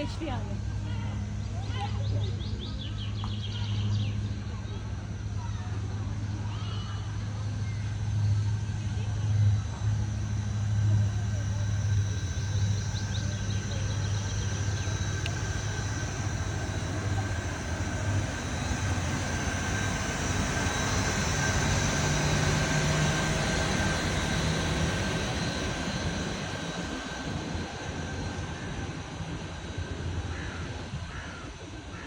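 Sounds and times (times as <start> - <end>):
aircraft engine rumble: 0.0 - 32.0.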